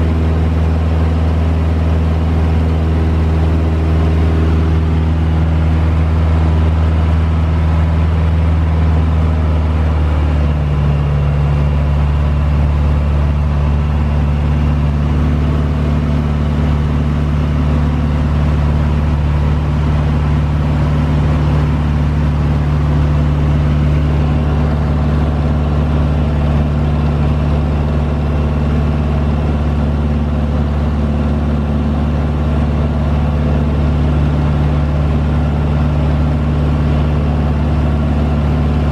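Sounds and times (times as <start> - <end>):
light airplane engine droning: 0.0 - 38.9.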